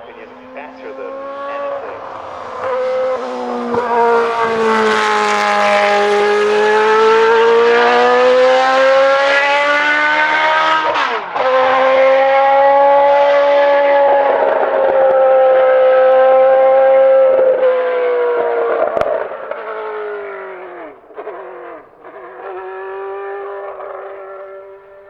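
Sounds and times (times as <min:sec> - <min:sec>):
racing car engine at high revs: 0:00.0 - 0:25.0.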